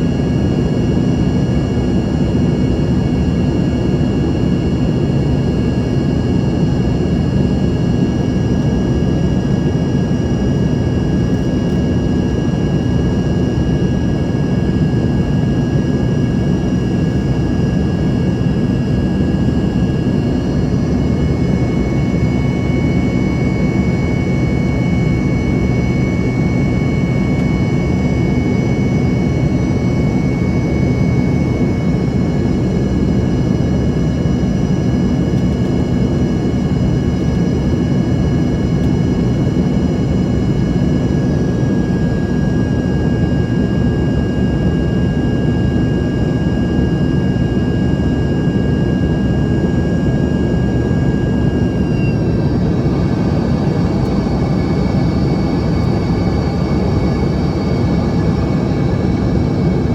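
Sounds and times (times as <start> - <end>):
high engine whine: 0.0 - 59.9
jet engine rush: 0.0 - 59.9.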